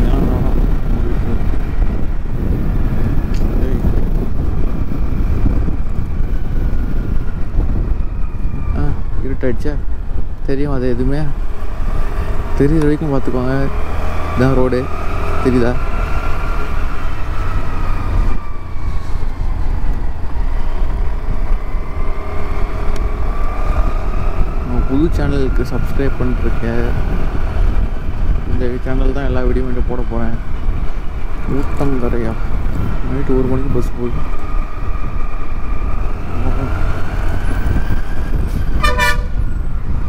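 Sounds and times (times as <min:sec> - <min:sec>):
tyres on road: 0:00.0 - 0:40.0
wind buffeting microphone: 0:00.0 - 0:40.0.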